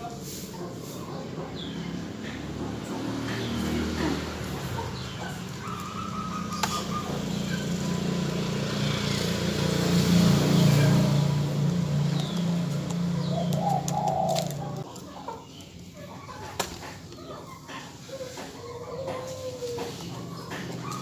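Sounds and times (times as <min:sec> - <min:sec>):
vehicle engine passing: 0:00.0 - 0:14.9, 0:18.0 - 0:21.0.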